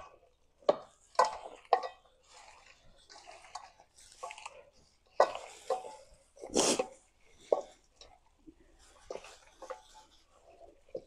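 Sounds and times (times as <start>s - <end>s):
wet squelching of meat: 0.0s - 11.0s.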